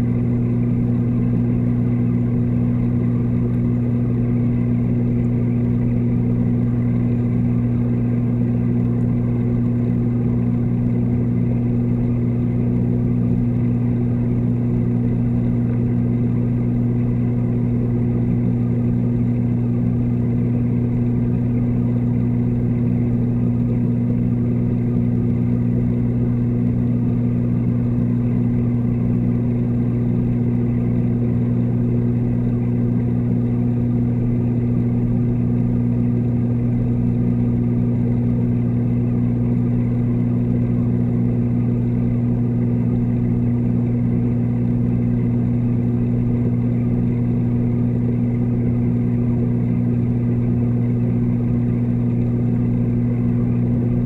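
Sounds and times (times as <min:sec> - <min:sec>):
aquarium pump hum underwater: 0:00.0 - 0:54.0.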